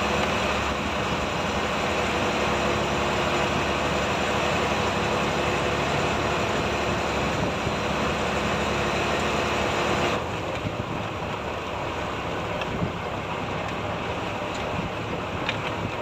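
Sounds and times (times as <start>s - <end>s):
boat engine running: 0.0s - 16.0s
rushing water: 0.0s - 16.0s.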